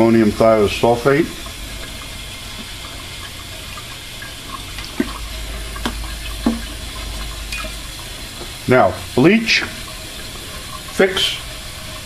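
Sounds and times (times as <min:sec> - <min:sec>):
liquid pouring into cylinder: 0:00.0 - 0:12.0
water running in sink: 0:00.0 - 0:12.0.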